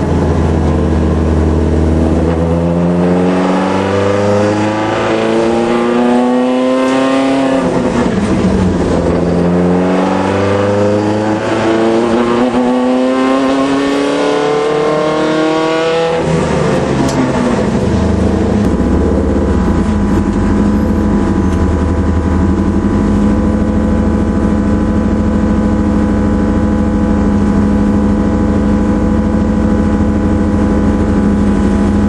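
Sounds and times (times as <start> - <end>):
racing car engine revving: 0.0 - 32.0.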